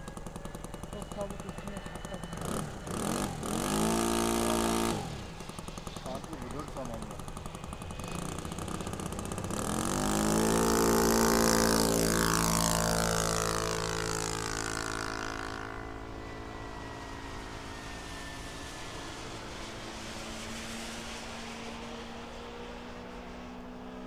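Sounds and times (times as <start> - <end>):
model plane engine at full throttle: 0.0 - 24.0.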